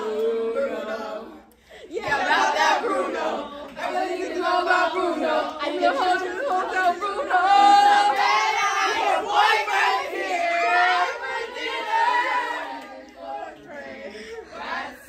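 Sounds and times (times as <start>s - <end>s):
young voices singing together: 0.0s - 15.0s.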